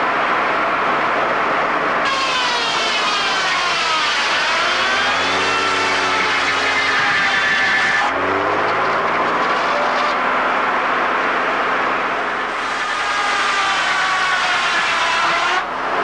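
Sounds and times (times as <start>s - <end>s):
sawmill saw and engine running: 0.0s - 16.0s.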